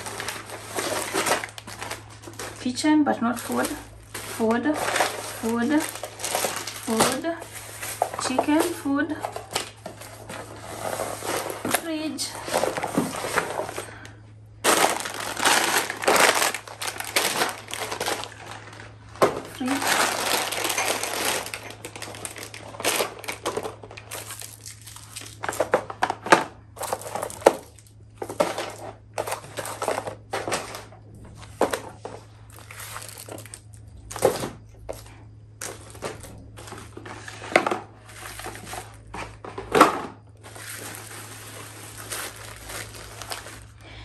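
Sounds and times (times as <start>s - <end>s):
plastic packaging rustling: 0.0s - 44.0s.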